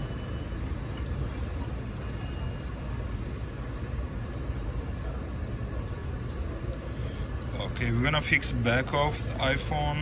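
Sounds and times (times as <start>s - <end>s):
machine fans humming: 0.0s - 10.0s.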